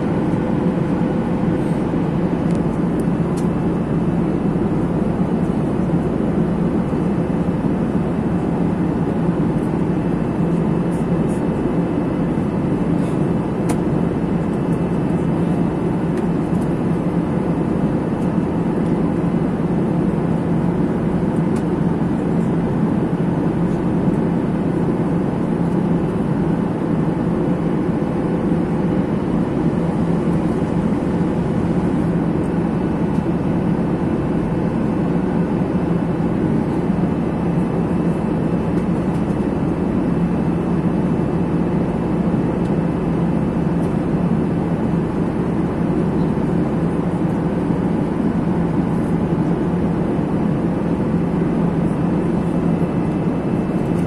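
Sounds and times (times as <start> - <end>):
constant low hum: 0.0 - 54.0
rush of air and engine: 0.0 - 54.0.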